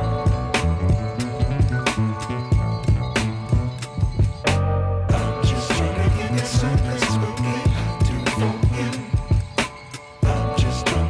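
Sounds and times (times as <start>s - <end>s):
music with drum beat and bass: 0.0s - 11.0s.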